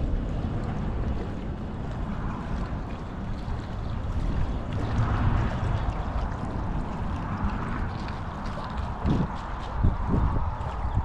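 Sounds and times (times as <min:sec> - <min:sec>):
small waves on shoreline: 0:00.0 - 0:11.0
wind buffeting microphone: 0:00.0 - 0:11.0.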